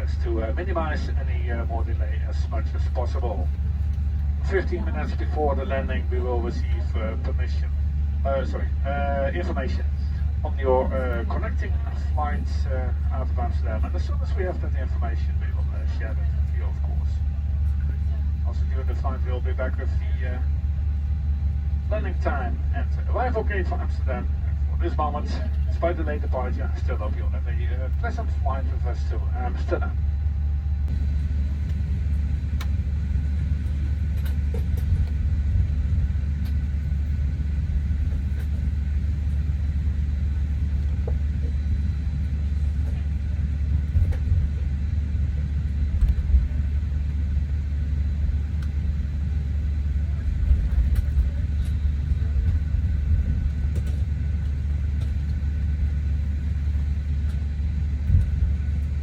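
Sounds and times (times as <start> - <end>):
airliner cabin rumble and hum: 0.0 - 59.0.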